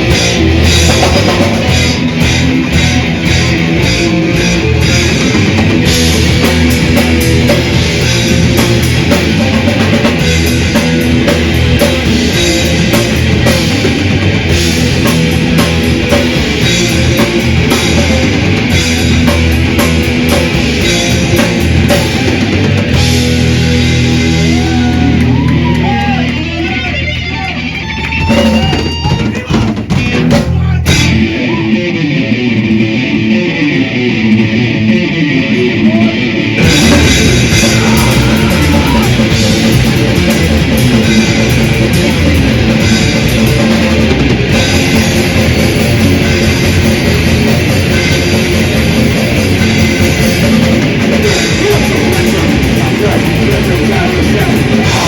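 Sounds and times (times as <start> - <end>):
distorted guitar riff: 0.0 - 55.0
metal band playing live: 0.0 - 55.0.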